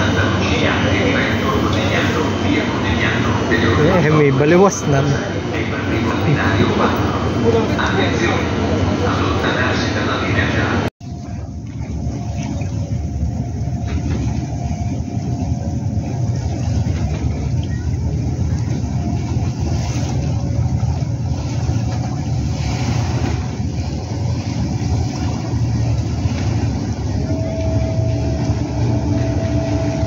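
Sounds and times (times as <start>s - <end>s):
choppy water around boat: 0.0s - 30.0s
wind rumble: 0.0s - 30.0s.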